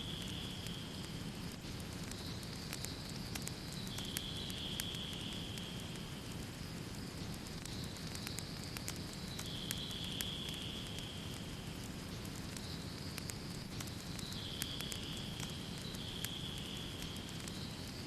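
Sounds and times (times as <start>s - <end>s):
low rumble of burning: 0.0s - 18.0s
wood fire crackling and popping: 0.0s - 18.0s.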